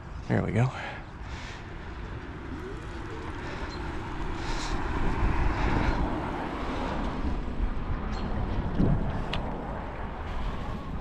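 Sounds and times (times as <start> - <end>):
wind rushing over microphone: 1.2 - 11.0.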